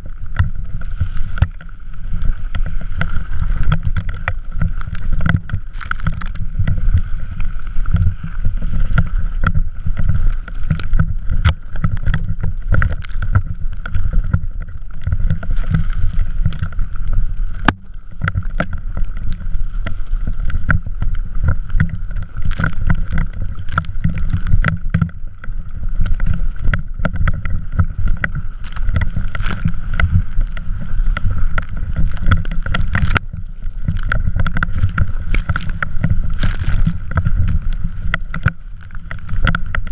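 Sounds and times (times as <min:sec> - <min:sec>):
wheels running on snow: 0:00.0 - 0:39.9
wind buffeting microphone: 0:00.0 - 0:39.9.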